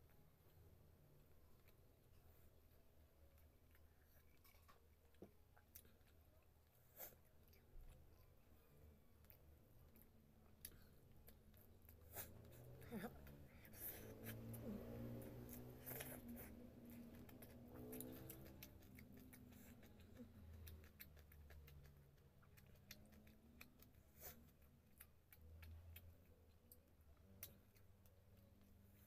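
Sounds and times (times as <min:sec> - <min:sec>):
chewing with mouth clicks: 0:00.0 - 0:29.0.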